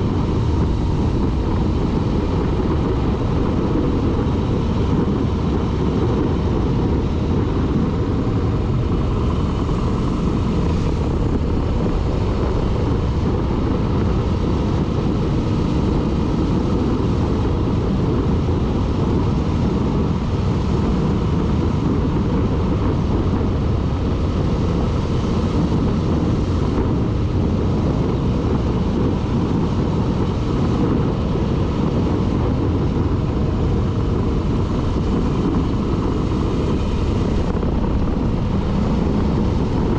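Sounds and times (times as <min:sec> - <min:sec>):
vehicle road rumble: 0:00.0 - 0:39.9.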